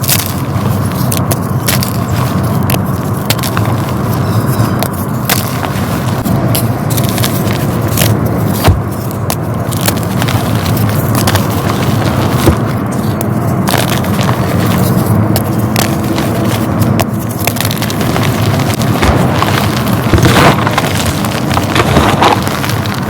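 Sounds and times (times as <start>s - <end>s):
chalk being crushed: 0.0s - 23.0s.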